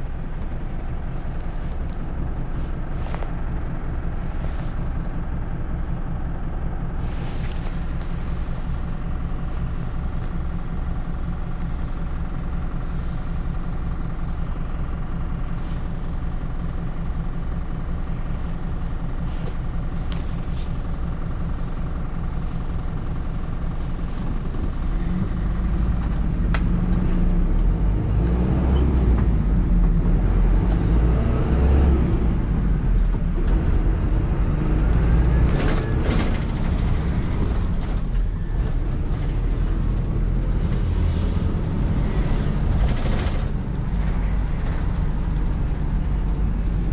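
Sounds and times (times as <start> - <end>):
bus engine accelerating: 0.0 - 46.9.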